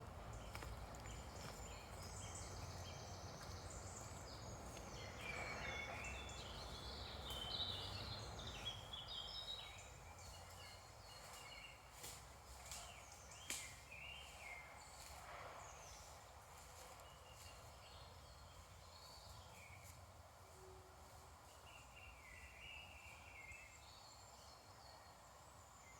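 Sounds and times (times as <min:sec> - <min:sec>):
songbirds chirping and trilling: 0:00.0 - 0:25.9.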